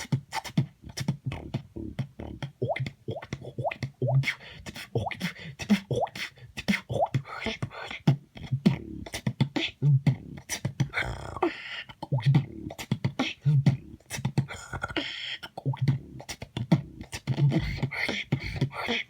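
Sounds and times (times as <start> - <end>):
person beatboxing: 0.0 - 19.0.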